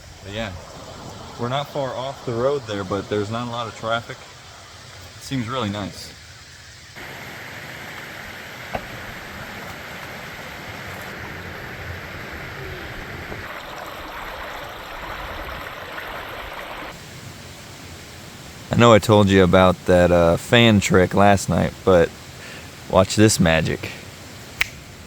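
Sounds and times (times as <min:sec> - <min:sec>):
creek water babbling: 0:00.0 - 0:25.0.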